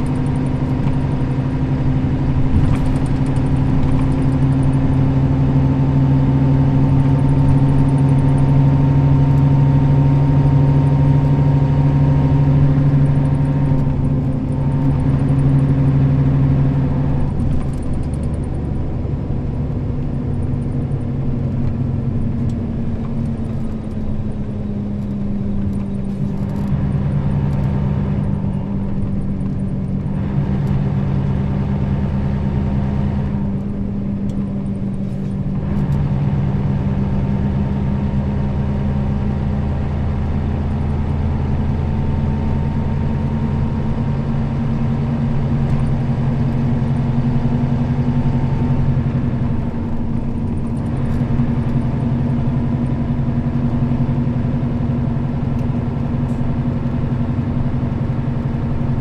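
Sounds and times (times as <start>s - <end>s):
bus diesel engine humming: 0.0s - 59.0s.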